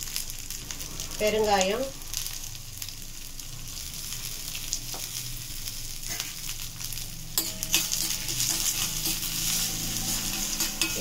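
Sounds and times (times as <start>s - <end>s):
lentils and chillies sizzling in oil: 0.0s - 11.0s.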